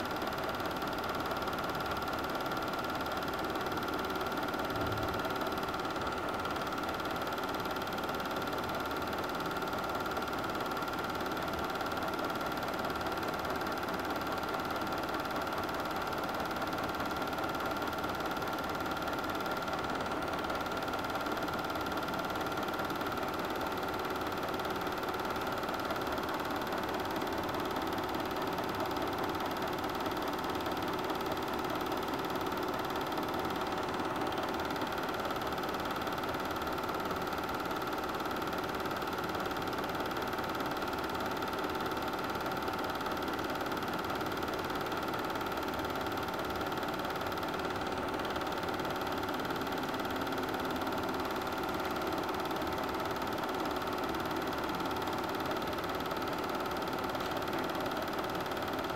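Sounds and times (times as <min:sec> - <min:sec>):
film projector whirring: 0:00.0 - 0:58.9.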